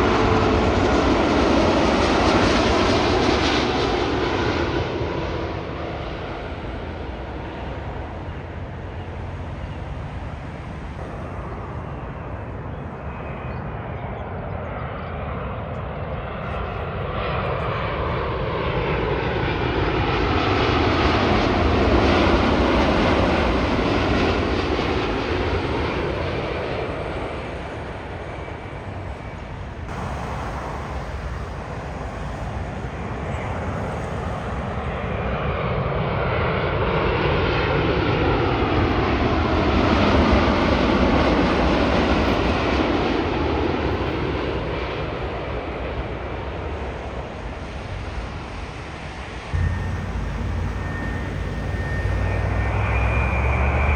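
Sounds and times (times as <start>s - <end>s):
jet airliner passing close: 0.0s - 53.9s
jet approaching: 0.0s - 53.9s.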